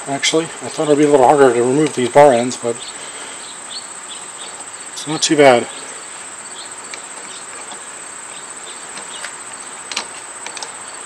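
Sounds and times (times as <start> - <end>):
insect chirring: 0.0 - 11.0.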